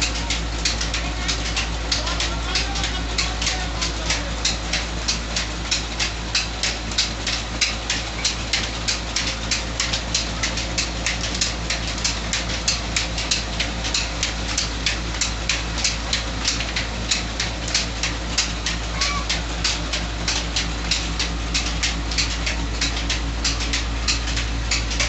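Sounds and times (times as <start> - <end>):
mill motor humming: 0.0 - 25.0
regular sharp clicking: 0.0 - 25.0.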